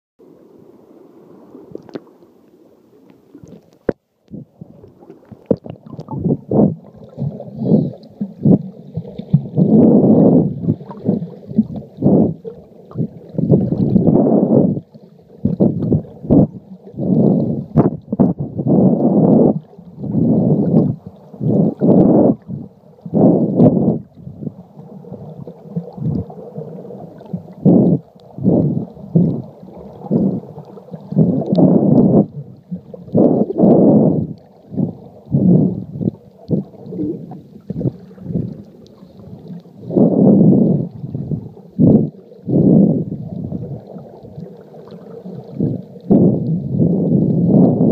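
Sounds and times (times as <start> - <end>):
muffled underwater sloshing: 0.2 - 47.9.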